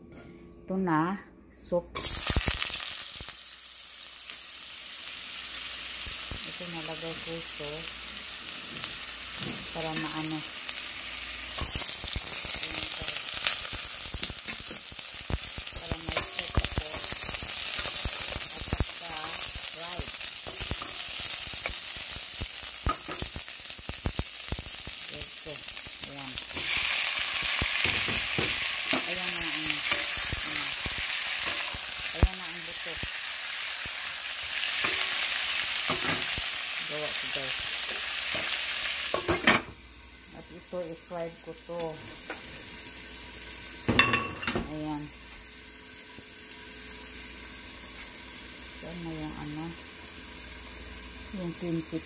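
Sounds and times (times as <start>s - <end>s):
food sizzling in hot oil: 2.0s - 52.0s.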